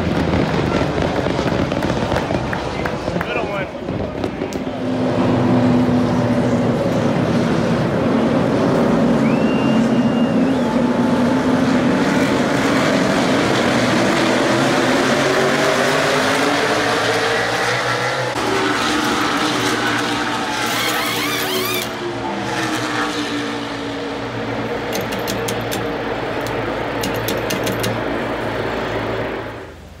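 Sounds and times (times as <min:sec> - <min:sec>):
race cars passing: 0:00.0 - 0:30.0.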